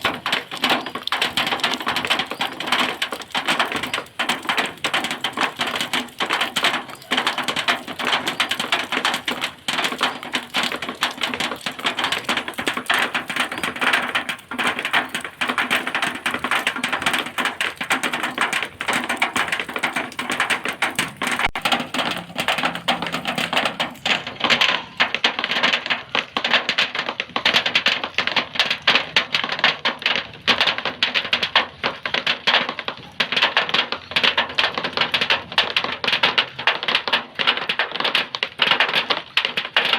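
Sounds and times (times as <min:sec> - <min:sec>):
rain on a metal sheet: 0:00.0 - 0:39.9.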